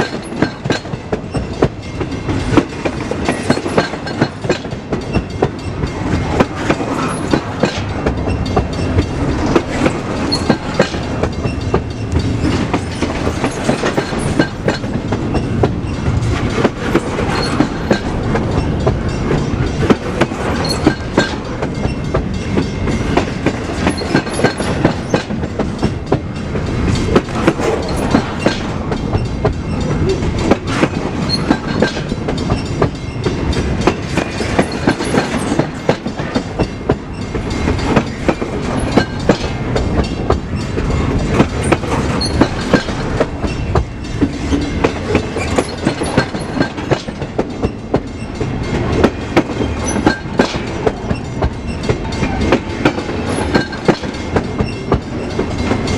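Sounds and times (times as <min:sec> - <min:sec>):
freight train rumble: 0:00.0 - 0:55.9
train wheels clacking over rail joints: 0:00.0 - 0:55.9.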